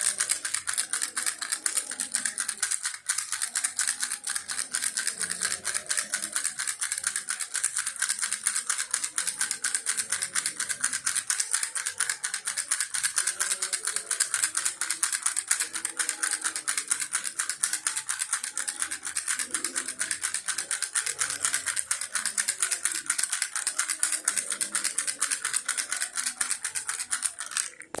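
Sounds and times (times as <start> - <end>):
baby rattle shaken: 0.0 - 28.0.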